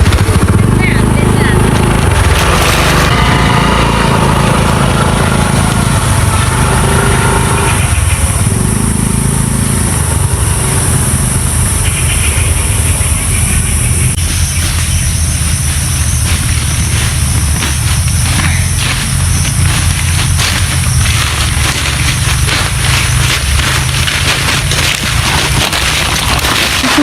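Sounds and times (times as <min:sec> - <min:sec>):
road and wind noise: 0:00.0 - 0:27.0
vehicle engine running: 0:00.0 - 0:27.0.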